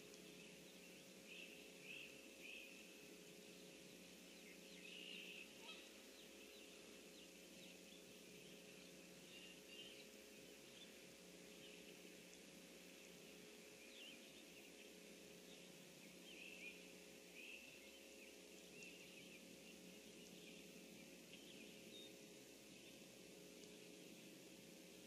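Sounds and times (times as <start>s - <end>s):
small birds chirping: 0.0s - 24.6s
low hum and hiss: 0.0s - 25.0s.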